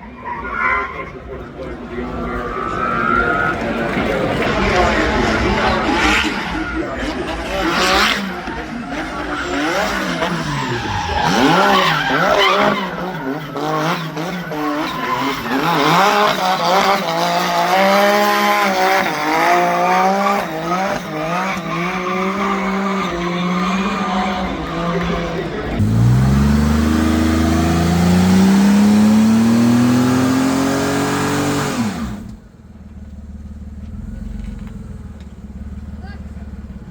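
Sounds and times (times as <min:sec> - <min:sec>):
race car engine revving: 0:00.0 - 0:36.9
tyres squealing: 0:02.0 - 0:32.4.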